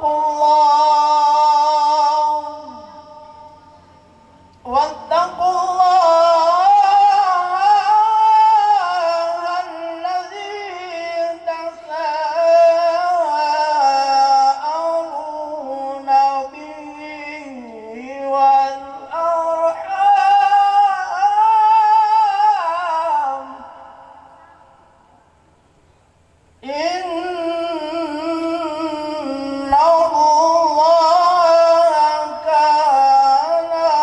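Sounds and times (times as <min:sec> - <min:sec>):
man chanting: 0:00.0 - 0:25.2, 0:26.6 - 0:34.0.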